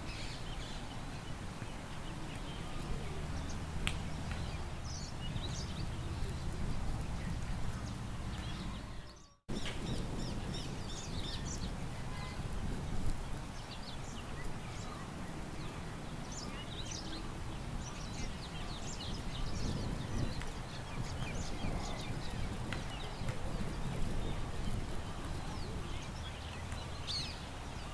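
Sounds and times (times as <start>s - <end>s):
low rush of wind: 0.0s - 27.9s
small birds chirping: 0.0s - 27.9s.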